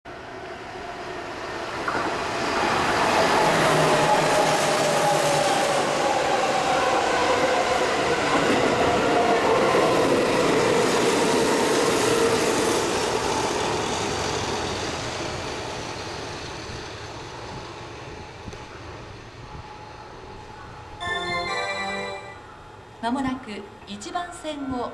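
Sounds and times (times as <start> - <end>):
train passing at speed: 0.1 - 24.9.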